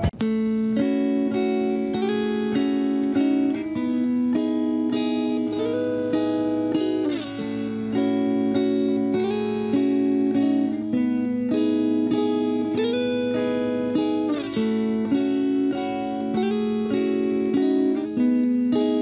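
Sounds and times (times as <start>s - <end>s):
guitar playing sustained chords: 0.0s - 19.0s.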